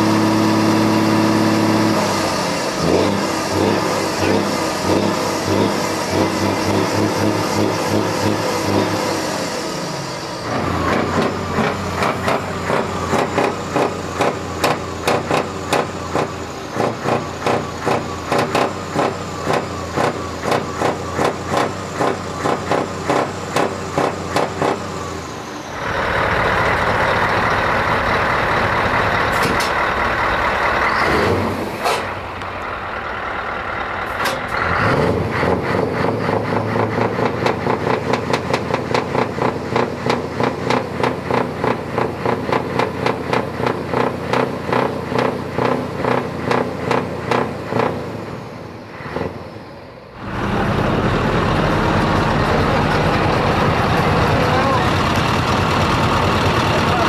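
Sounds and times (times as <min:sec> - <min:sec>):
diesel truck engines revving: 0:00.0 - 0:57.0.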